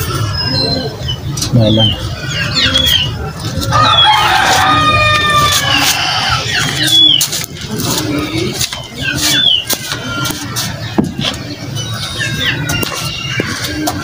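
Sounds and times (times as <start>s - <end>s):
birds chirping: 0.0s - 14.0s
low cooing calls: 0.0s - 14.0s
low hum of traffic: 0.0s - 14.0s.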